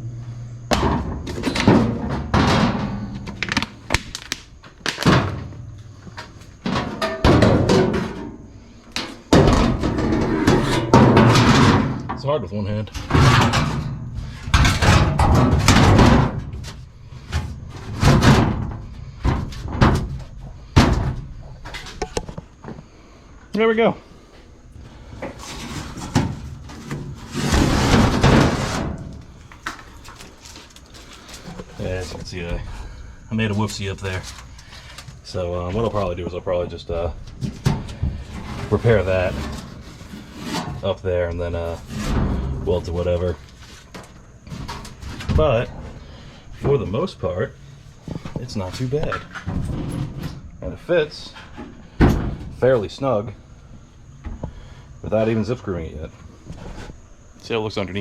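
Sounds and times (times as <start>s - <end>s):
sheet metal scraping and rattling: 0.8s - 3.6s, 5.1s - 22.3s, 25.1s - 53.0s.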